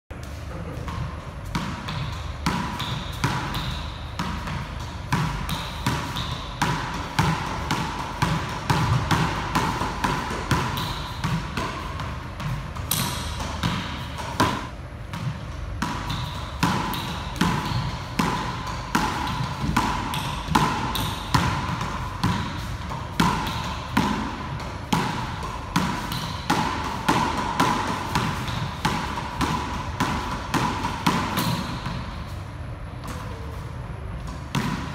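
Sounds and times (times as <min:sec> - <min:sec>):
ball hitting racquet and walls: 0:00.1 - 0:34.9
steady hum: 0:00.1 - 0:34.9.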